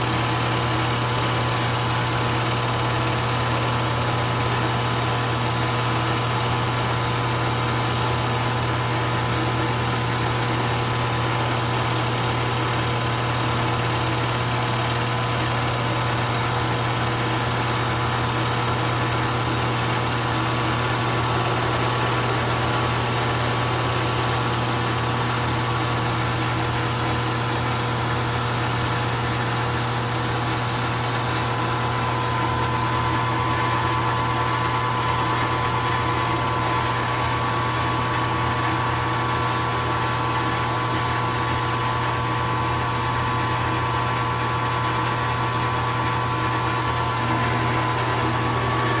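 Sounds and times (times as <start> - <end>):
milling machine running: 0.0 - 49.0.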